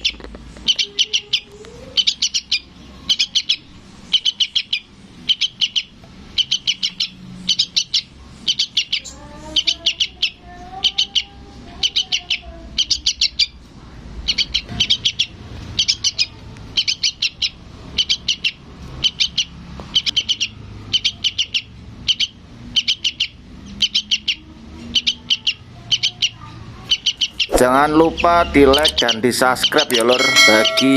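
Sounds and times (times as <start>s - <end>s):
young bird begging chirps: 0.0s - 13.6s, 14.2s - 30.9s.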